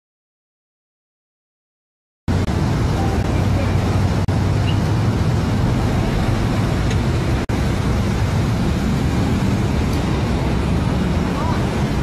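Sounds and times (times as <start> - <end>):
low engine hum: 2.3 - 12.0
passing traffic: 2.3 - 12.0.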